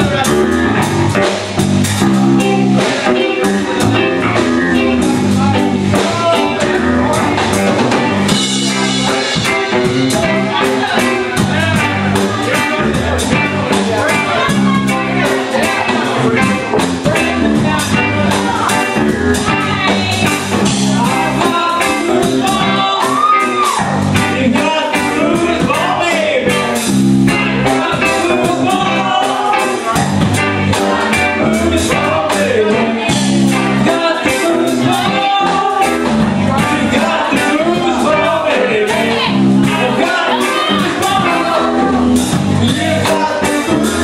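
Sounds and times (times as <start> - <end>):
guitar: 0.0 - 44.0
person singing: 0.0 - 44.0
steady drum beat: 0.0 - 44.0.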